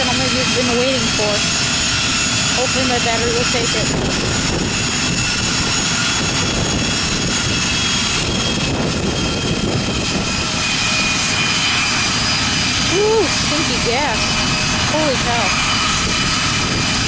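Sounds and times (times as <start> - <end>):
jet engine idling: 0.0 - 17.0.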